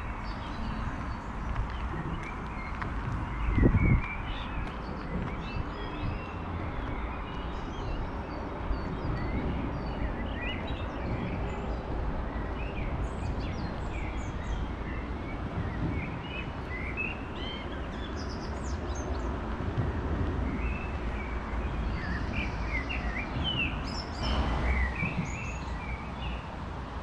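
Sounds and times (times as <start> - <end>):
small birds chirping: 0.0 - 26.6.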